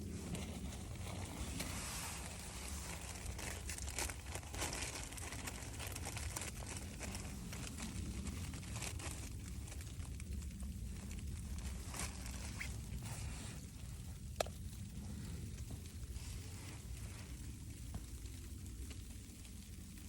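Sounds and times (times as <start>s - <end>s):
sleet pattering on tent roof: 0.0s - 18.4s
low steady rumble: 0.0s - 20.0s.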